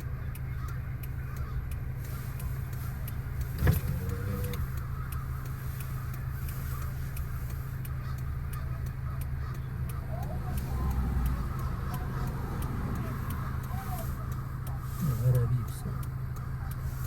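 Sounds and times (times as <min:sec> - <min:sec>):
engine rumble: 0:00.0 - 0:17.0
faint crow calls: 0:00.0 - 0:17.0.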